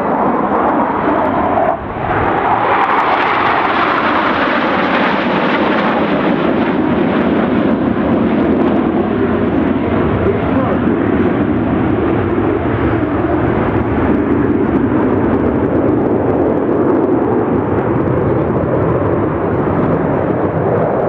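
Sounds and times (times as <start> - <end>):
jets flying overhead: 0.0 - 21.0.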